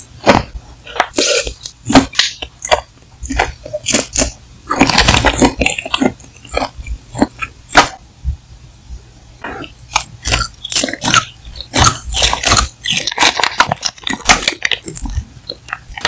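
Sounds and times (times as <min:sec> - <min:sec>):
sharp mouth sounds: 0:00.0 - 0:08.0, 0:09.4 - 0:16.0
wet bites and chewing: 0:00.0 - 0:08.0, 0:09.6 - 0:16.0.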